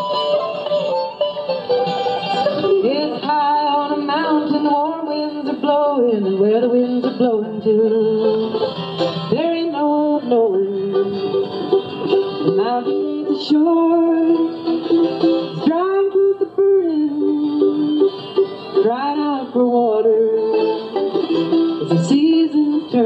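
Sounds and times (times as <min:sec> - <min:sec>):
acoustic guitar: 0:00.0 - 0:23.0
mandolin: 0:00.0 - 0:23.0.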